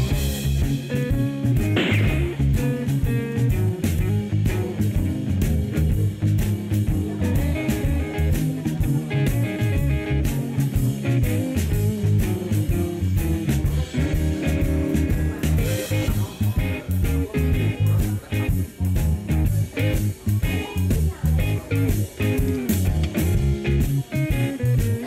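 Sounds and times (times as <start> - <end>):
guitar music with drum beat: 0.0 - 25.0.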